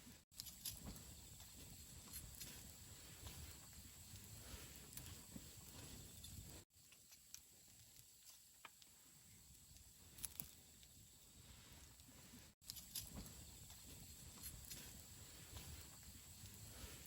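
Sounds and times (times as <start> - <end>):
fire crackles and pops: 0.3 - 17.0
campfire hissing: 0.4 - 17.0.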